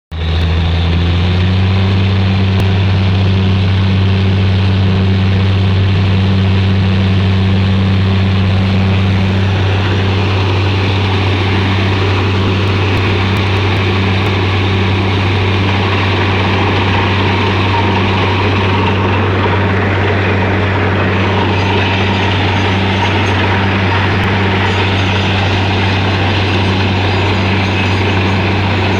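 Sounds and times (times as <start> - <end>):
heavy machine engine running: 0.1 - 28.9.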